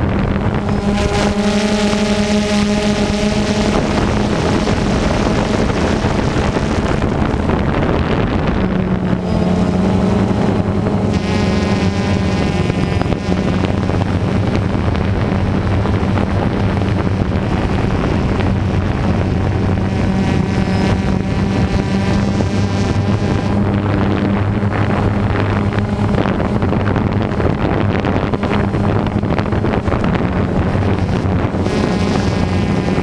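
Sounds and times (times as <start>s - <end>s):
drone motors humming and whining: 0.0s - 33.0s
wind rushing on microphone: 0.0s - 33.0s.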